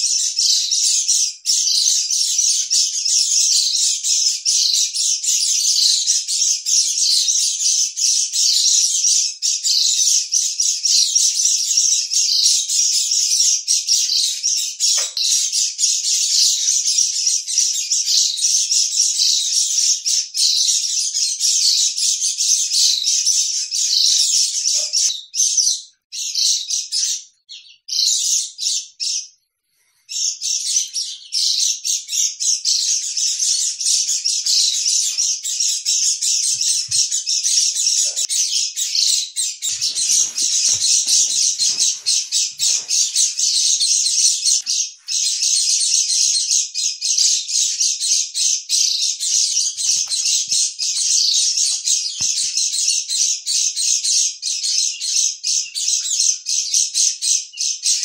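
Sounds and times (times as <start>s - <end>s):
small birds chirping and twittering: 0.0s - 58.0s.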